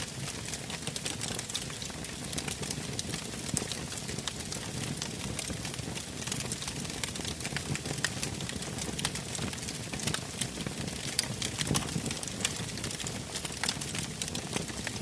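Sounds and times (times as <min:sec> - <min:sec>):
campfire crackling and popping: 0:00.0 - 0:15.0
low rumble of flames: 0:00.1 - 0:15.0.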